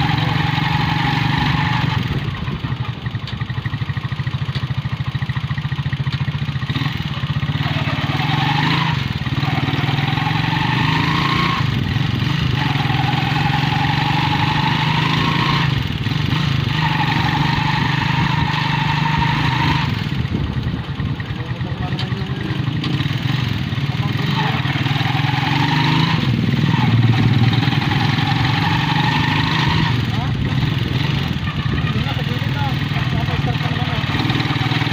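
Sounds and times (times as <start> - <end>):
motorcycle engine running: 0.0 - 34.9
road noise: 0.0 - 34.9.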